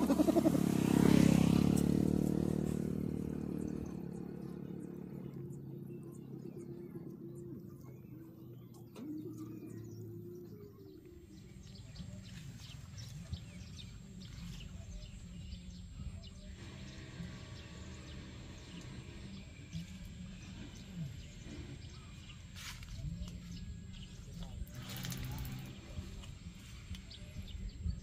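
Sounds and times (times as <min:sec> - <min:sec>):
low outdoor rumble: 0:00.0 - 0:28.0
small birds chirping: 0:00.0 - 0:28.0
low steady hum: 0:03.2 - 0:28.0.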